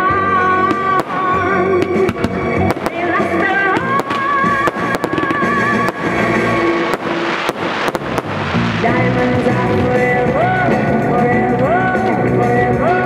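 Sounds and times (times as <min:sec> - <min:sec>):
fireworks bangs and pops: 0:00.7 - 0:12.4.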